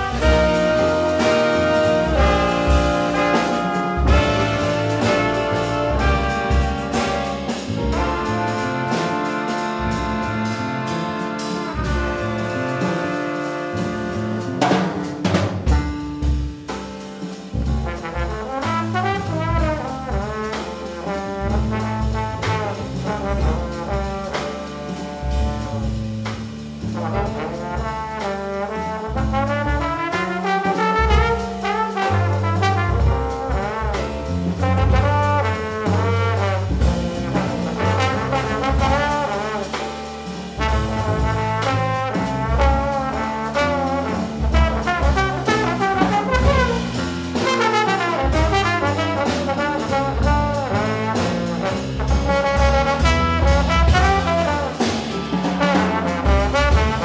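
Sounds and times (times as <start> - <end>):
trumpets: 0.0 - 15.7, 17.7 - 57.0
drums: 0.0 - 57.0
electric bass: 0.0 - 57.0
trombone: 0.0 - 57.0.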